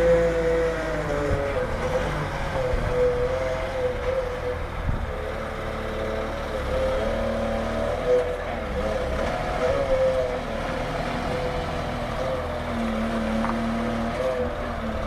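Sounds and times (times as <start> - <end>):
forklift engine rumble: 0.0 - 15.0.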